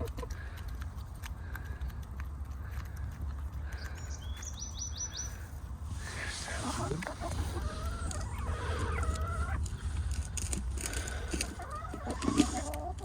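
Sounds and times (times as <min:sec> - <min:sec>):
hens clucking: 0:00.0 - 0:04.2, 0:05.2 - 0:13.0.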